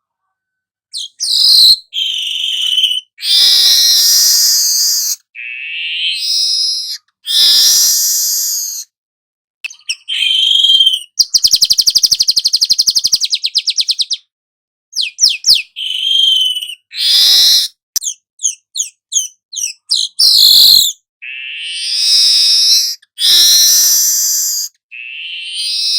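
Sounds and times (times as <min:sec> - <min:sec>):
bird singing squeaky phrases: 0:00.9 - 0:09.0, 0:09.6 - 0:14.3, 0:14.9 - 0:25.9.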